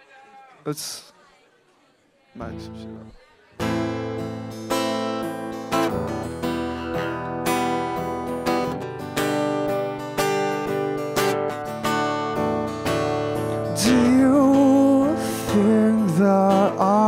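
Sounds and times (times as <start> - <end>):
acoustic guitar strumming chords: 2.4 - 17.0.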